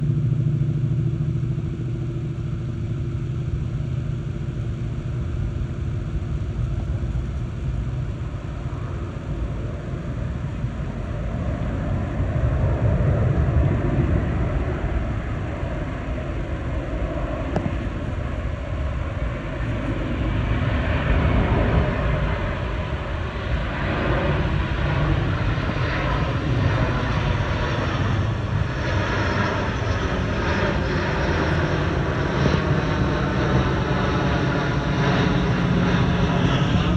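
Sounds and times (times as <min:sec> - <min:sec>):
jet engines low rumble: 0:00.0 - 0:36.9.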